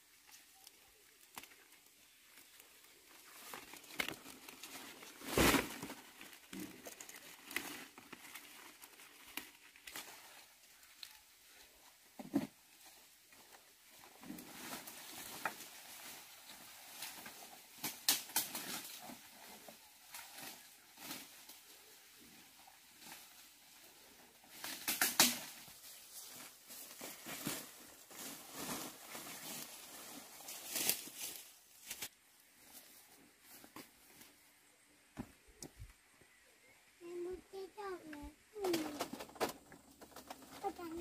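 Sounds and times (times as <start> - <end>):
rustling and crinkling plants: 0.0 - 41.0.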